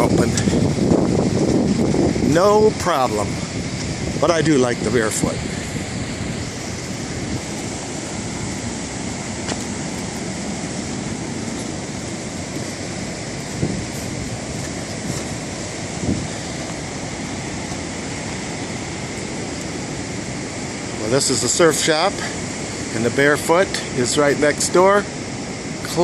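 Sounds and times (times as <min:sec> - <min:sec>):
surf rushing: 0:00.0 - 0:26.0
wind: 0:00.0 - 0:26.0.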